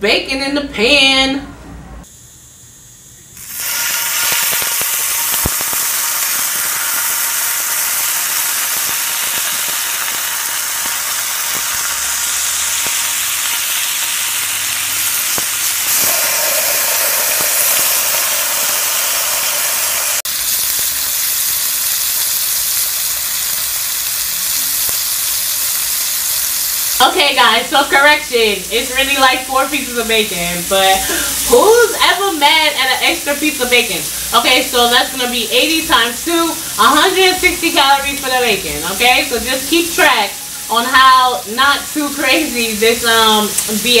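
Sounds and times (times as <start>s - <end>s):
bacon sizzling in a frying pan: 3.4s - 44.0s.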